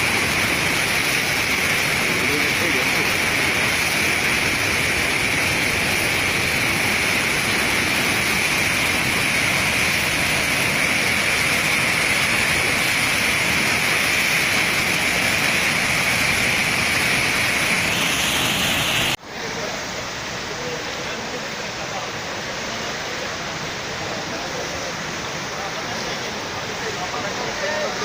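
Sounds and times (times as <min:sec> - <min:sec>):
floodwater rushing through sluice: 0:00.0 - 0:28.0.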